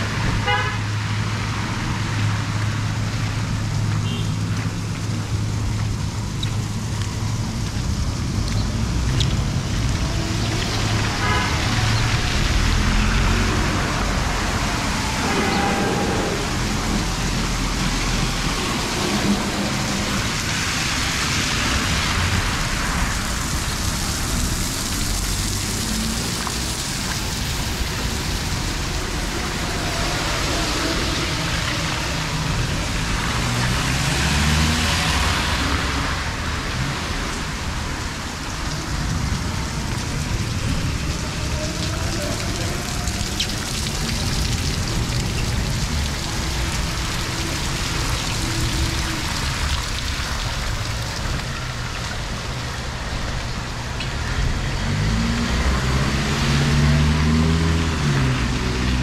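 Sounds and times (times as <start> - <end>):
heavy rain on wet street: 0.0 - 59.0
rumble of motor vehicles: 0.0 - 59.0.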